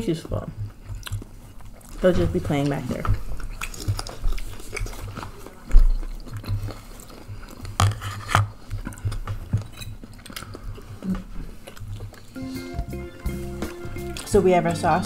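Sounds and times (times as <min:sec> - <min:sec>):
people chewing: 0:00.0 - 0:14.4.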